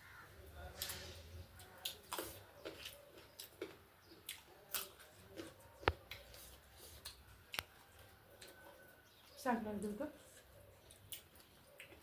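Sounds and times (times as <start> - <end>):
food being chewed: 0.7 - 9.4, 10.1 - 12.0.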